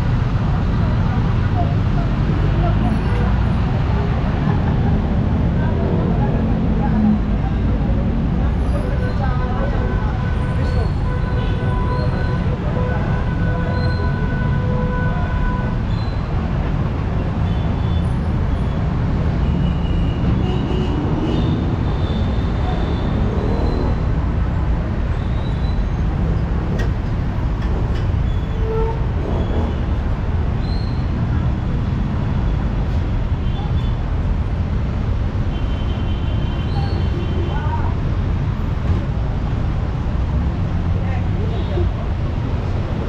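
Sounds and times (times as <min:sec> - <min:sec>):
rumble of passing vehicles: 0:00.0 - 0:43.0.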